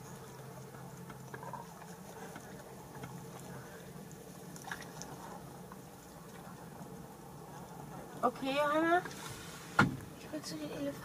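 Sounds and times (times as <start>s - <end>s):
light pattering: 0.0s - 9.2s
vehicle engine idling: 0.0s - 11.0s.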